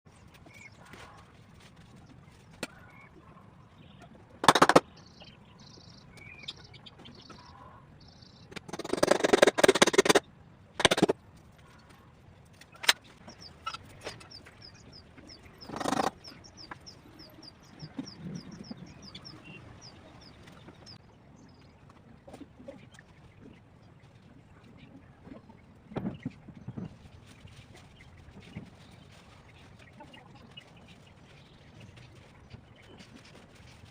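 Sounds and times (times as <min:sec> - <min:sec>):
birds chirping: 0:00.1 - 0:10.2, 0:12.6 - 0:33.9.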